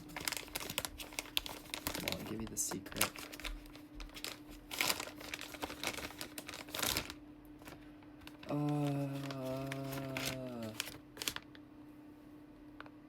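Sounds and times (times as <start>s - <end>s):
packaging crinkling and tearing: 0.0s - 11.6s.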